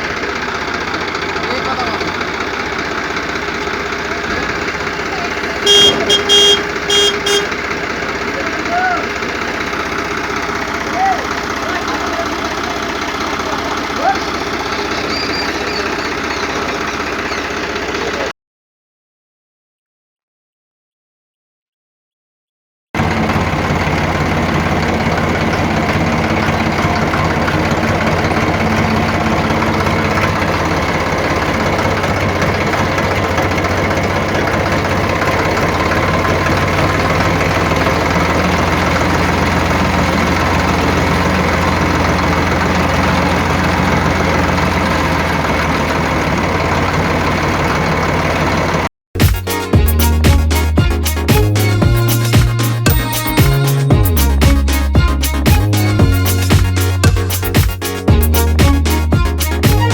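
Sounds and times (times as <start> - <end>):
engine idling with even knock: 0.0 - 18.3, 23.0 - 59.9.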